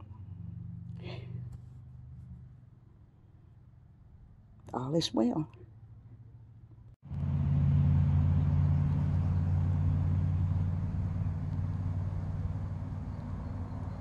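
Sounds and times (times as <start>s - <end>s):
low motor hum: 0.0s - 3.2s, 5.6s - 14.0s.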